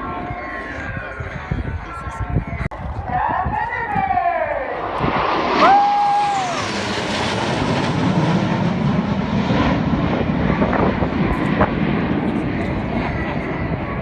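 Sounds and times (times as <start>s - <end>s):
aircraft engines flying past: 0.0s - 14.0s.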